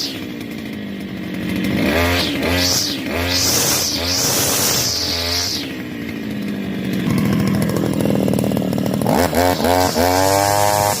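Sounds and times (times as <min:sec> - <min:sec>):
small petrol engine revving: 0:00.0 - 0:11.0.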